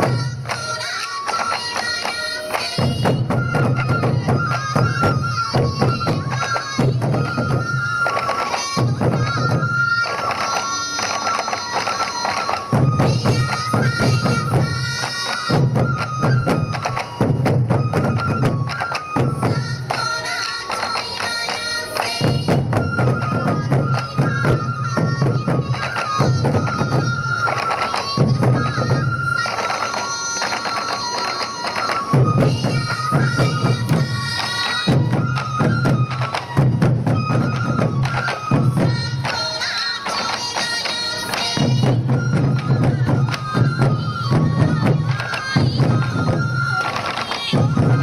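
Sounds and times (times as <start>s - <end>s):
bamboo flute playing high melody: 0.0s - 48.0s
taiko drums beating fast: 0.0s - 48.0s.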